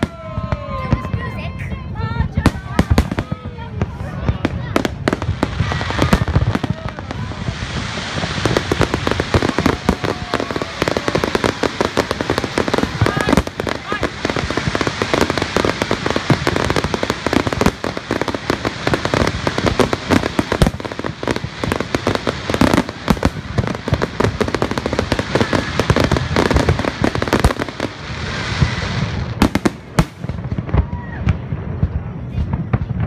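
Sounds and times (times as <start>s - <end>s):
firework shell bursts and crackling: 0.0s - 32.0s
sharp firework bangs: 2.2s - 33.0s.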